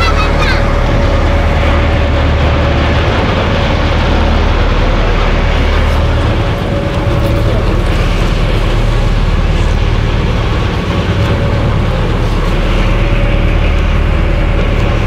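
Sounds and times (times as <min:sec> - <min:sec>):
motorboat engine drone: 0:00.0 - 0:15.0
water rushing from wake: 0:00.0 - 0:15.0.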